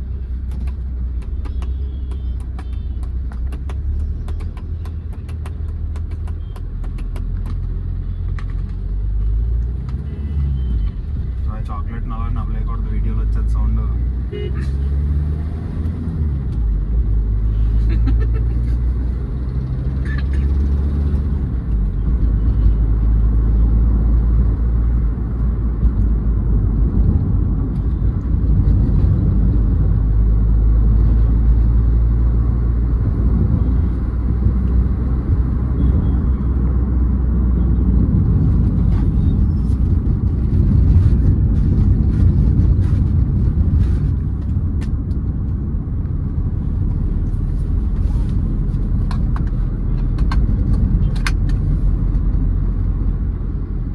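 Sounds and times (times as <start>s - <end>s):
car engine drone: 0.0s - 53.9s
road noise: 0.0s - 53.9s.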